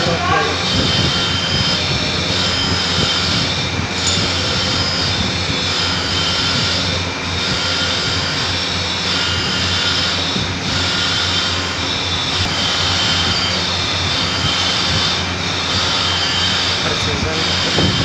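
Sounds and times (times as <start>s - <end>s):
machinery humming: 0.0s - 18.0s
thin high machine whine: 0.0s - 18.0s.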